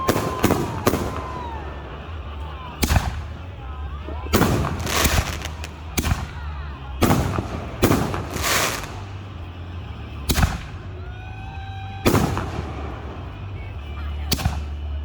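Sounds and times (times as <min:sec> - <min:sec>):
fireworks bangs: 0:00.0 - 0:15.0
fireworks crackling: 0:00.0 - 0:15.0
fireworks whistling: 0:00.0 - 0:15.0.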